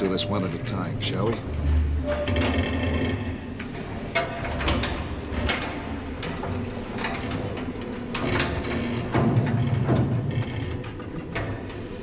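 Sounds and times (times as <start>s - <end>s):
mechanical creaking rattle: 1.2s - 12.0s.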